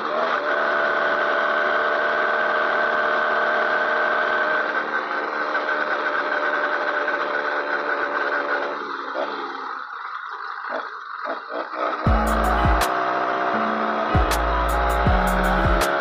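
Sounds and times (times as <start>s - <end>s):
small bicycle engine running: 0.0s - 16.0s.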